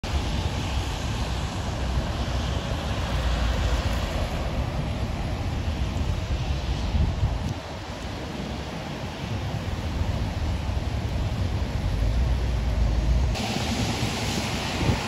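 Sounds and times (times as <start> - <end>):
road traffic on wet street: 0.0 - 15.0.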